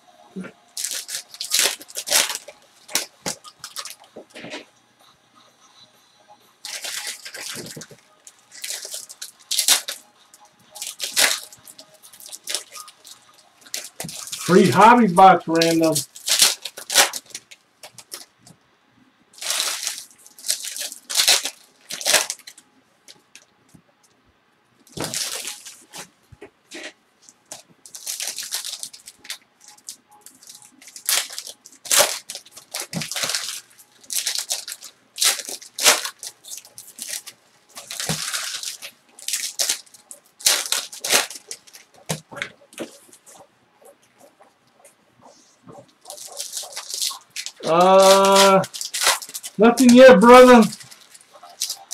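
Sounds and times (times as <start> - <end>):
foil wrappers tearing and crinkling: 0.4 - 4.6, 6.6 - 10.1, 10.7 - 18.3, 19.4 - 23.4, 24.9 - 26.1, 26.8 - 43.4, 45.3 - 51.9.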